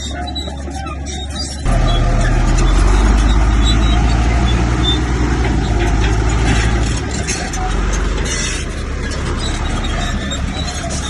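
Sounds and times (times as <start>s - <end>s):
bulldozer diesel engine droning: 0.0s - 11.0s
metallic clanks: 1.7s - 11.0s.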